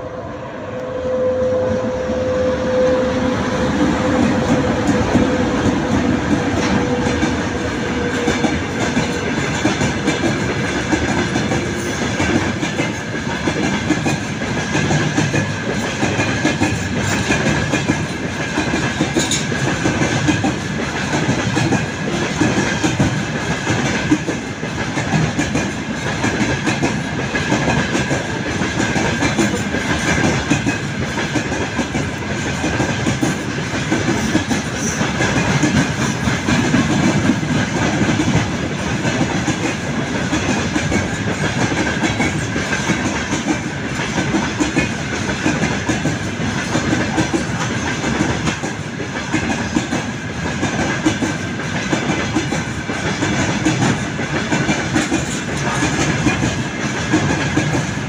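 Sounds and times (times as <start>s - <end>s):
train wheels clicking over rail joints: 3.6s - 58.0s.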